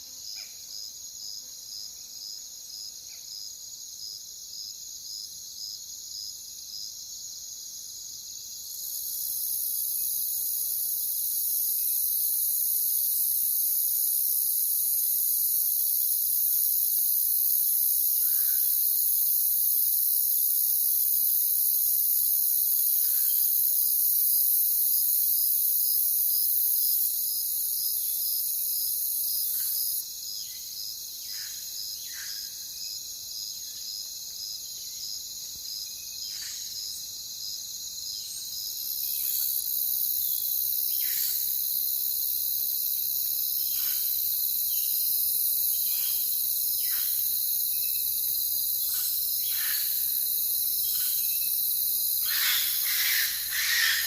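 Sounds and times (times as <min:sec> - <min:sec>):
crickets trilling: 0:04.6 - 0:54.0.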